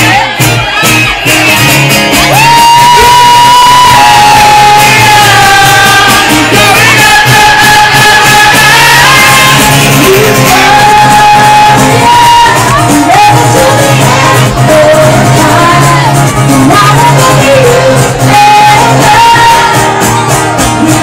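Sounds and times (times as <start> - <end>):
guitar and band backing: 0.0 - 21.0
woman singing long notes: 2.4 - 20.0.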